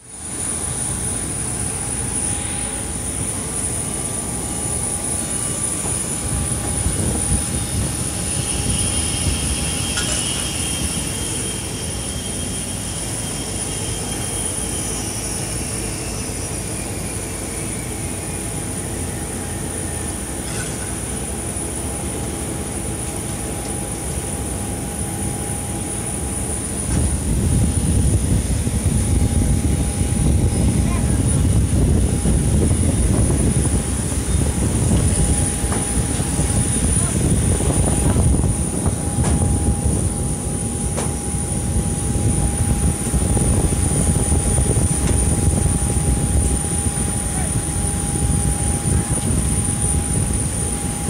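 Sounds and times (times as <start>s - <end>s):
airliner cabin rumble: 0.0s - 51.0s.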